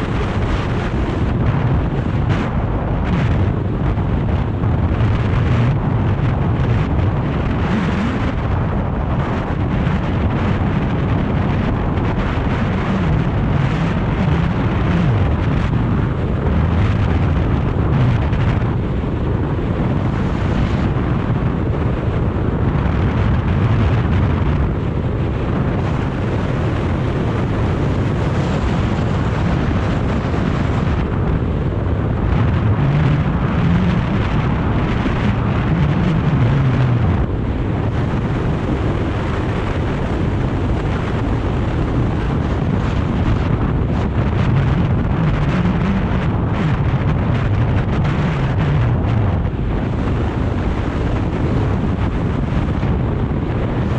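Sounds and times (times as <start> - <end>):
wind noise on microphone: 0.0 - 53.9.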